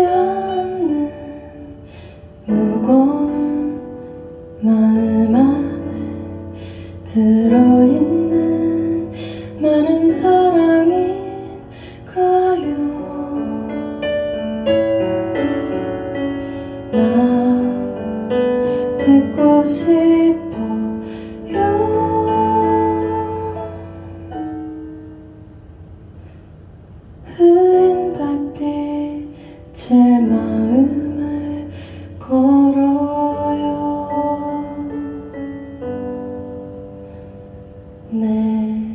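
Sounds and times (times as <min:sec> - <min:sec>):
woman singing ballad: 0:00.0 - 0:14.9, 0:16.6 - 0:24.6, 0:27.2 - 0:36.4, 0:38.0 - 0:38.9
digital piano chords: 0:00.0 - 0:38.9.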